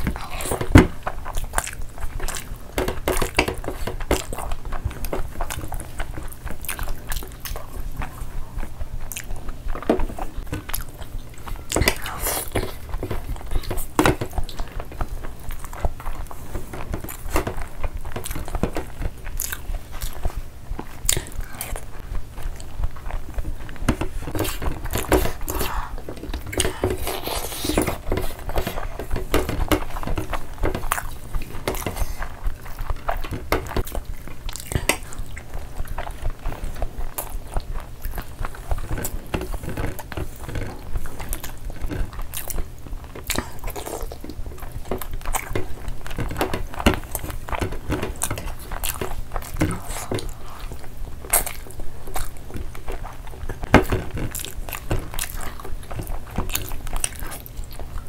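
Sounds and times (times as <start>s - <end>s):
chewing and lip-smacking: 0.0s - 58.0s.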